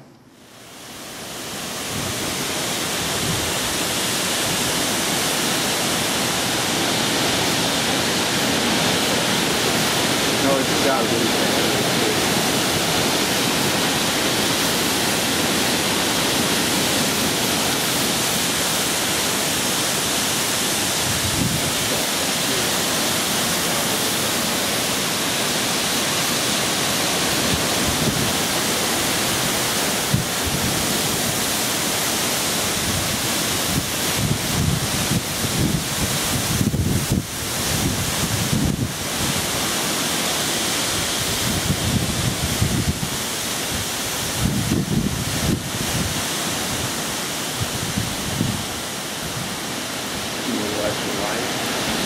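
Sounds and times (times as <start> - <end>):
heavy rain pouring: 0.4 - 52.0
wind gusts buffeting microphone: 1.5 - 52.0.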